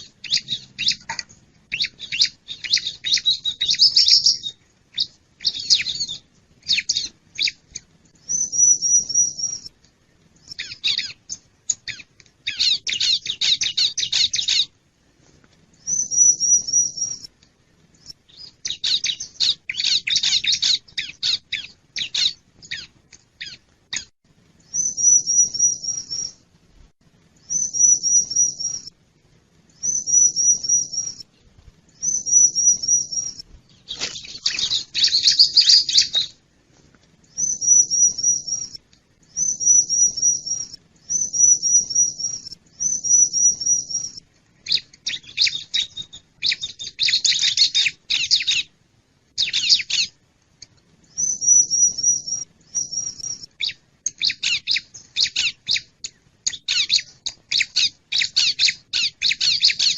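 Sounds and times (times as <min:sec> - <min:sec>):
bird song phrases: 0:00.0 - 0:09.7, 0:10.4 - 0:14.7, 0:15.8 - 0:17.3, 0:18.0 - 0:24.1, 0:24.7 - 0:26.4, 0:27.4 - 0:29.0, 0:29.7 - 0:31.3, 0:32.0 - 0:36.4, 0:37.3 - 0:48.7, 0:49.4 - 0:50.2, 0:51.1 - 0:59.9.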